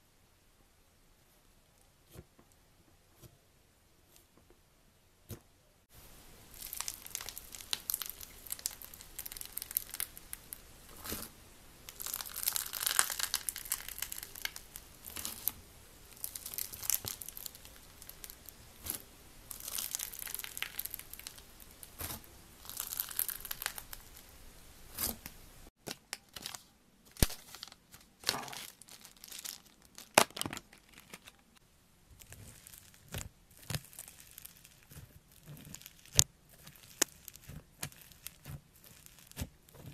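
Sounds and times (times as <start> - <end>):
slime crackling and crinkling: 6.4 - 39.9.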